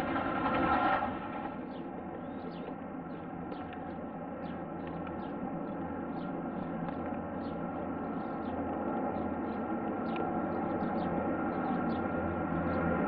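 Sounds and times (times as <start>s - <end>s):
aircraft engine drone: 0.0s - 13.0s
small birds chirping: 1.6s - 13.0s.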